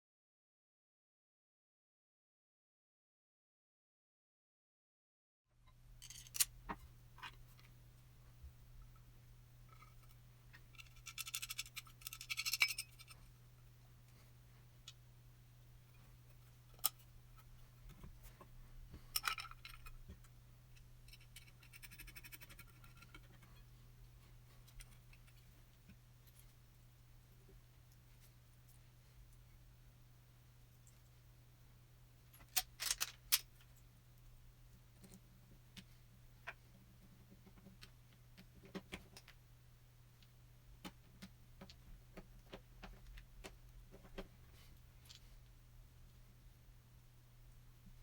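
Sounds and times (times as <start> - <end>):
steady low hum: 5.6 - 48.0.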